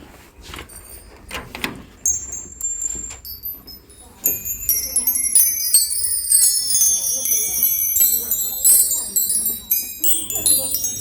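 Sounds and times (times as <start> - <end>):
small metal chimes ringing: 0.7 - 11.0.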